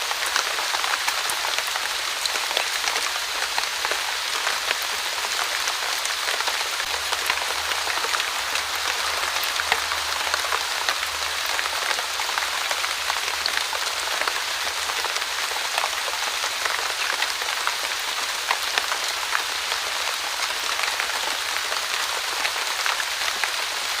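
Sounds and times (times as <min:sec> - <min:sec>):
light rain drizzle: 0:00.0 - 0:24.0.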